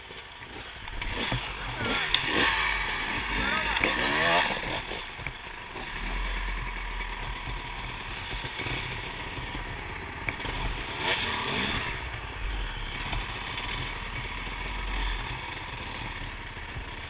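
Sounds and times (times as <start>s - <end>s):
dirt bike engines idling: 0.0s - 17.0s.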